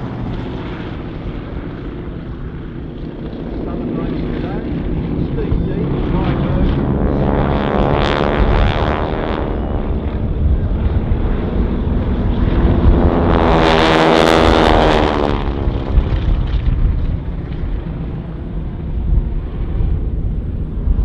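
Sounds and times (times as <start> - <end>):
propeller planes droning overhead: 0.0 - 21.0
wind rumbling on microphone: 0.0 - 21.0.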